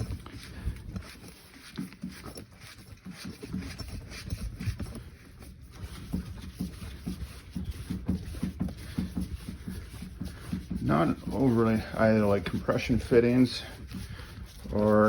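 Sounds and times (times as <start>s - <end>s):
pipe fittings knocking and rubbing: 0.0s - 15.0s.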